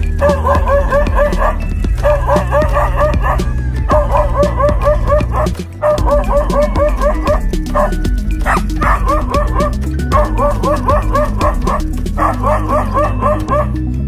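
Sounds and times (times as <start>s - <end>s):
music with bass and beat: 0.0s - 14.0s
dog barking: 0.2s - 13.8s.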